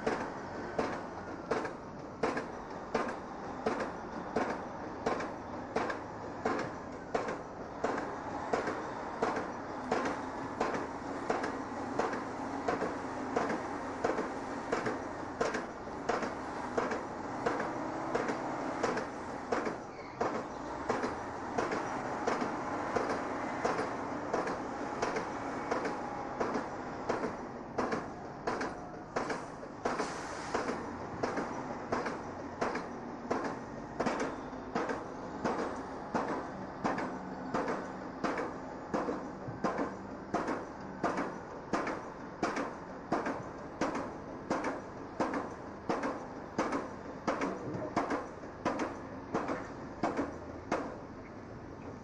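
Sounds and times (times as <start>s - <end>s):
steady knocking: 0.0s - 51.0s.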